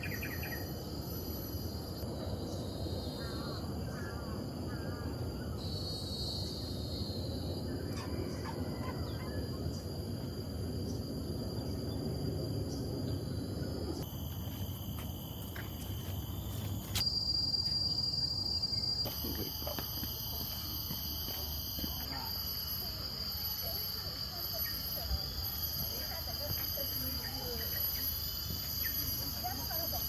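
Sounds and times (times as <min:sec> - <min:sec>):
high-pitched insect chorus: 0:00.0 - 0:30.0
low rumbling outdoor background: 0:00.0 - 0:30.0.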